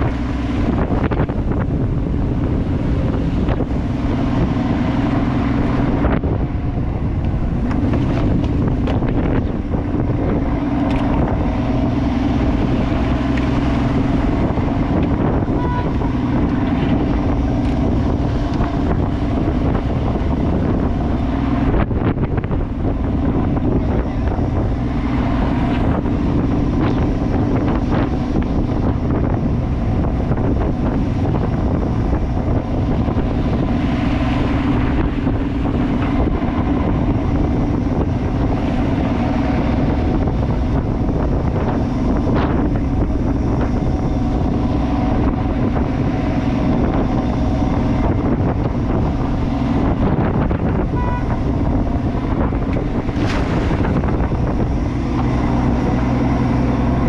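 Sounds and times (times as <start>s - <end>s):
boat engine running: 0.0s - 57.0s
wind buffeting microphone: 0.0s - 57.0s.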